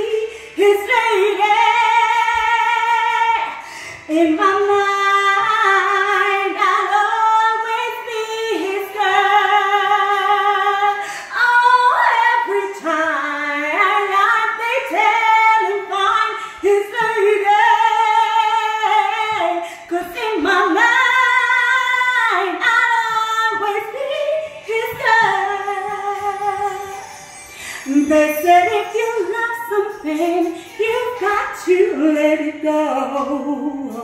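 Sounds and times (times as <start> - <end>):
woman singing unaccompanied: 0.0 - 26.9, 27.8 - 34.0.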